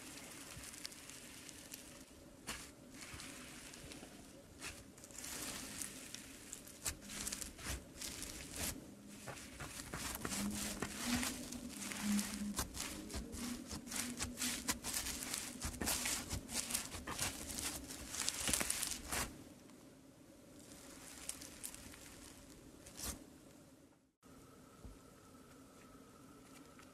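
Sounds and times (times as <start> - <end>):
crunchy slime crackling and popping: 0.0 - 19.4, 20.7 - 23.2.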